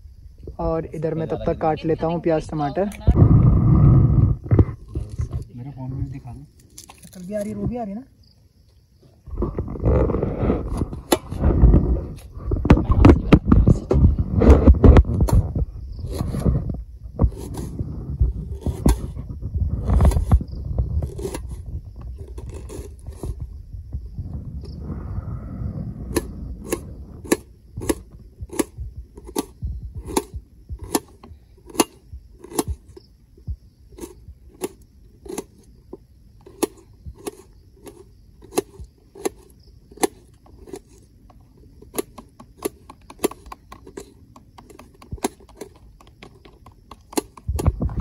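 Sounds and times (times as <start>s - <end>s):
handling rumble: 0.0s - 6.4s, 9.3s - 48.0s.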